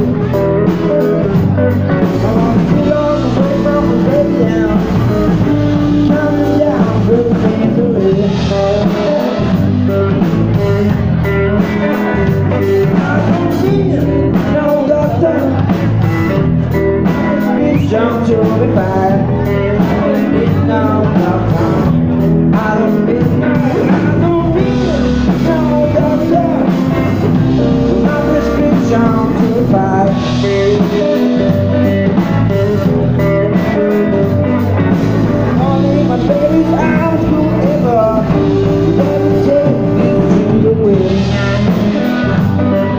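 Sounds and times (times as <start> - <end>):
bass guitar: 0.0 - 42.9
drum kit: 0.0 - 42.9
electric guitar: 0.0 - 42.9
man singing: 0.0 - 42.9.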